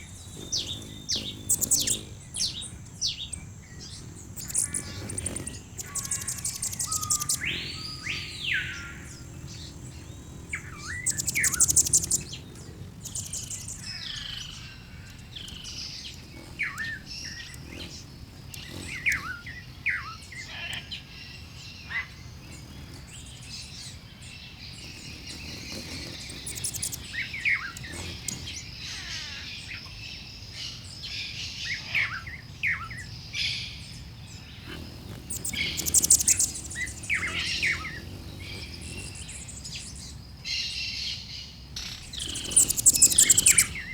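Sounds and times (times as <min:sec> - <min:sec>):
birds chirping and calling: 0:00.0 - 0:43.9
rapid buzzy bird trill: 0:00.0 - 0:43.9.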